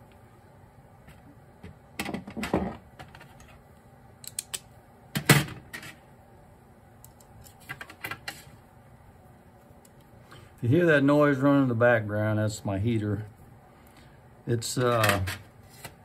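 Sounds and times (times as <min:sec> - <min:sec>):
heater humming faintly: 0:00.0 - 0:16.0.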